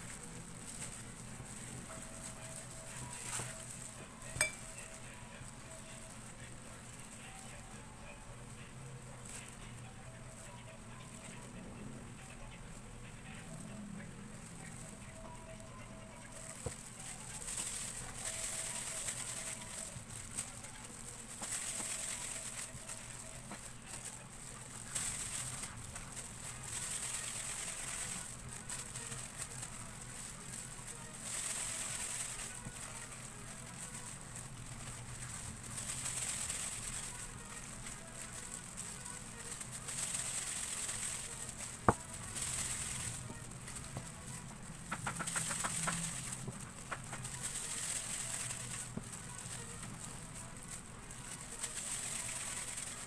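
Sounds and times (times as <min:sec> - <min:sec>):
plastic gloves crinkling: 0:00.0 - 0:53.0.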